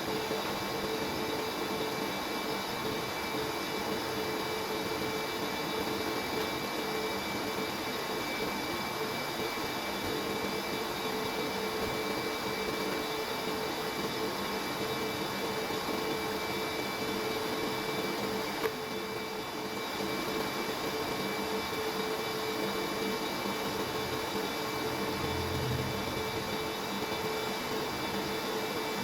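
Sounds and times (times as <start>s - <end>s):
mechanical whirring hum: 0.0s - 29.0s.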